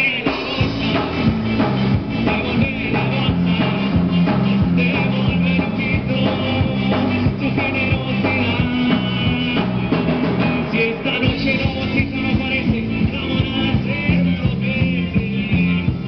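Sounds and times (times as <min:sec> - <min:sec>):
live rock band with horns: 0:00.0 - 0:16.0
person singing into a microphone: 0:00.0 - 0:16.0.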